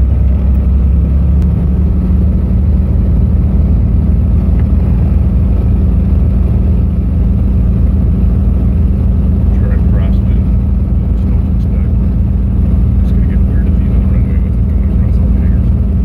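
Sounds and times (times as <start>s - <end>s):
aircraft piston engines droning: 0.0s - 16.0s.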